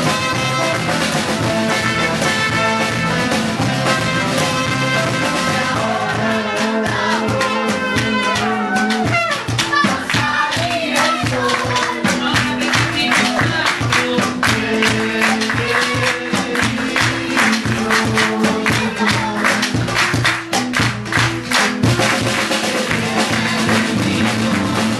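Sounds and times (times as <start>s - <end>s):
drum strokes: 0.0s - 24.9s
live band playing: 0.0s - 24.9s.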